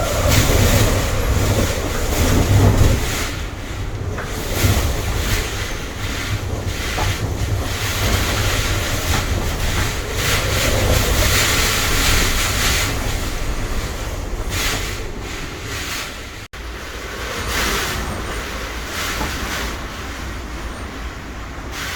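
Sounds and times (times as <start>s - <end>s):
strong wind buffeting microphone: 0.0s - 21.9s.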